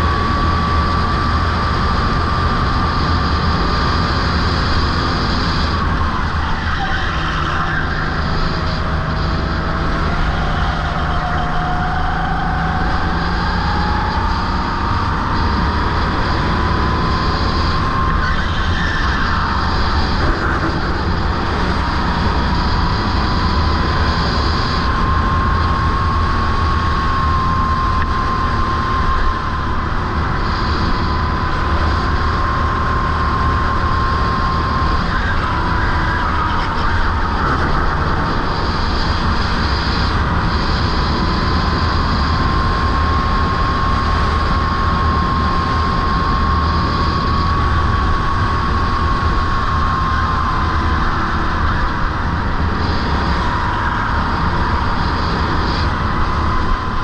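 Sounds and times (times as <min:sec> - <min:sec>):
go-kart engine running hard: 0:00.0 - 0:57.0
wind rumble on microphone: 0:00.0 - 0:57.0.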